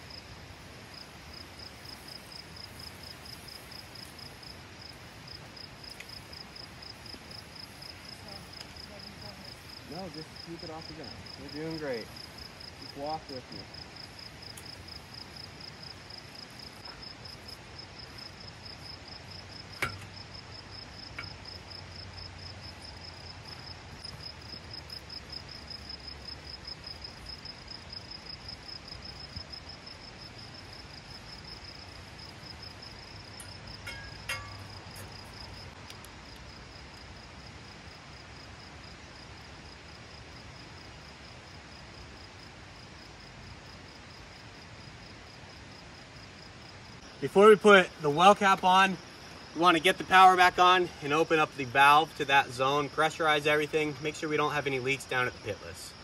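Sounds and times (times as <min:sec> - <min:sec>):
insect chirping: 0:00.0 - 0:56.0.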